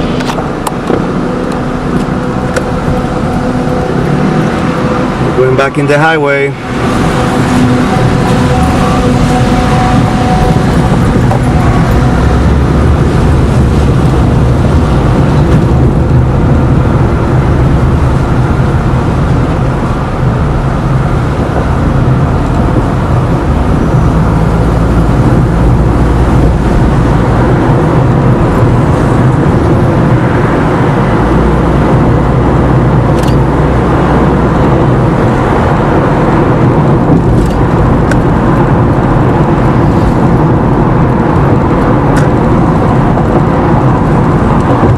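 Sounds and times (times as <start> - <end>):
car engine and tyre noise: 0.0 - 44.9.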